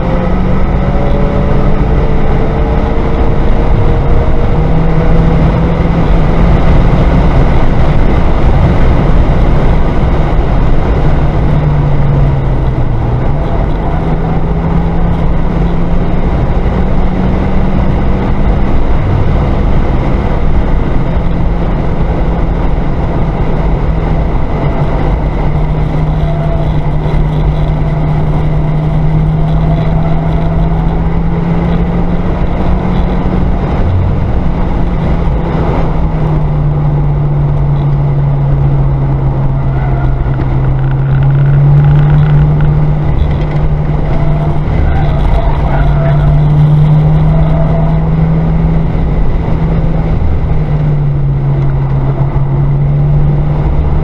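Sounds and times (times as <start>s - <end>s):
car engine under hard driving: 0.0s - 54.0s
road and wind noise: 0.0s - 54.0s.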